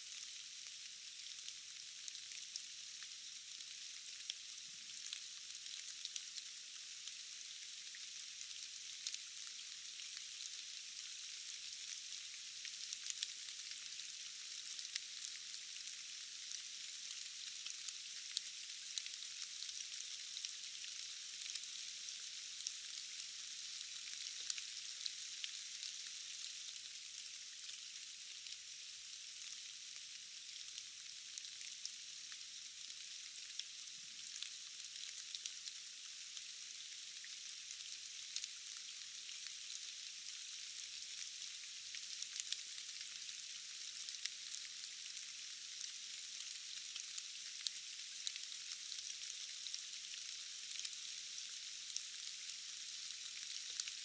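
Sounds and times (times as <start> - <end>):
steady rain in a forest: 0.0 - 54.0.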